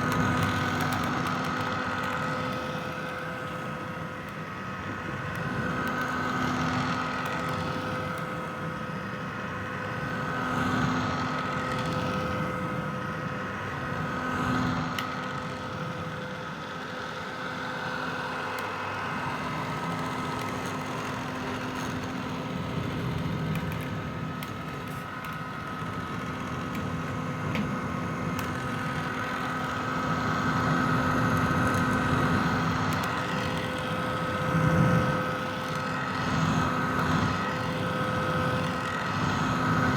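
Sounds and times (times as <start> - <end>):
hair dryer blowing and humming: 0.0 - 39.9.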